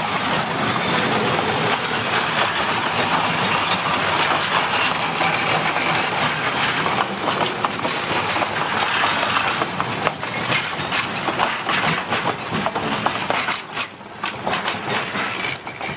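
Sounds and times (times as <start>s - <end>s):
train wheels clattering: 0.0s - 15.9s.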